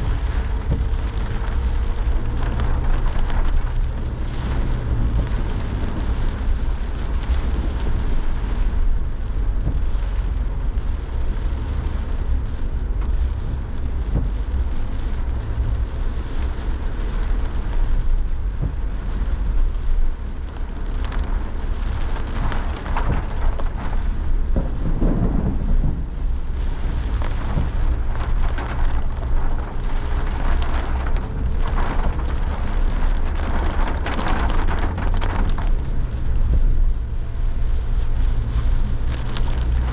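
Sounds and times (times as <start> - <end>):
heavy rain hissing: 0.0 - 39.9
low rumble: 0.0 - 39.9.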